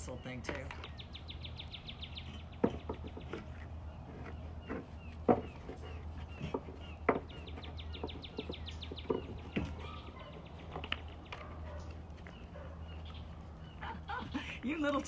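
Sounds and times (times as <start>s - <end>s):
small bird chirping: 0.0s - 14.4s
steady low hum: 0.0s - 15.0s.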